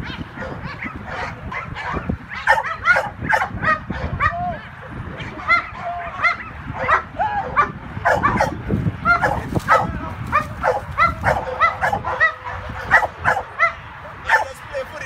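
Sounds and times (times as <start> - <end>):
dog barking excitedly: 0.0 - 4.5, 5.1 - 14.6.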